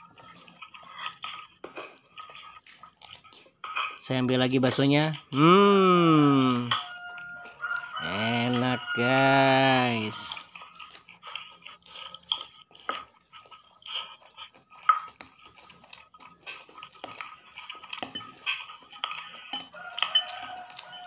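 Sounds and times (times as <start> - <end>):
cutlery clinking on ceramic bowl: 0.0 - 5.4, 6.4 - 21.0.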